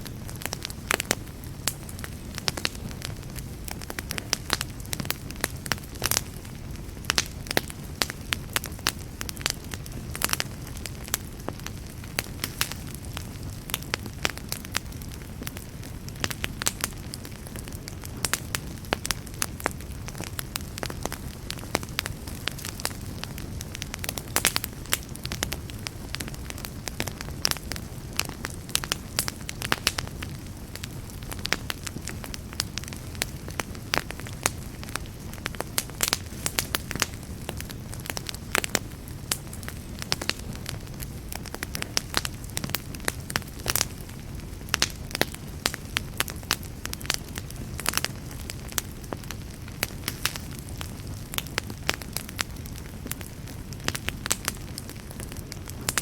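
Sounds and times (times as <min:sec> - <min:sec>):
campfire crackling and popping: 0:00.0 - 0:56.0
low rumble of flames: 0:00.0 - 0:56.0.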